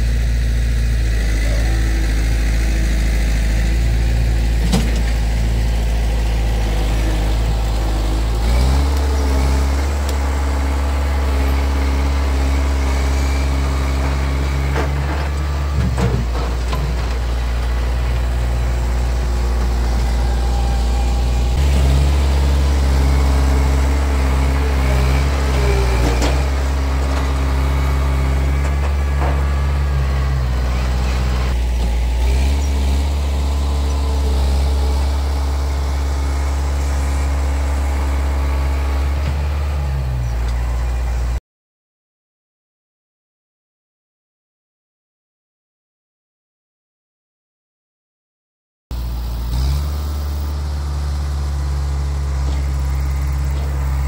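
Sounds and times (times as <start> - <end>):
loader pushing dirt: 0.0 - 41.4, 48.9 - 54.0
tractor diesel engine under load: 0.0 - 41.4, 48.9 - 54.0.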